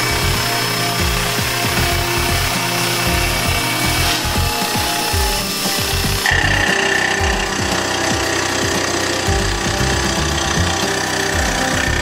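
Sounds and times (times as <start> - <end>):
hiss of coolant mist: 0.0 - 12.0
mill spindle running fly cutter: 0.0 - 12.0.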